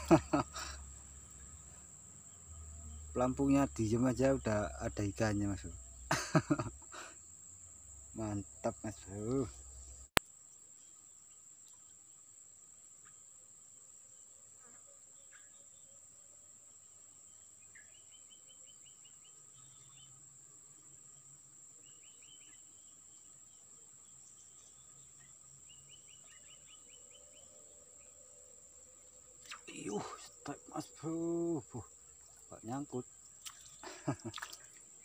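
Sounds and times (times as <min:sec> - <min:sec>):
high-pitched insect trill: 0:00.0 - 0:35.0.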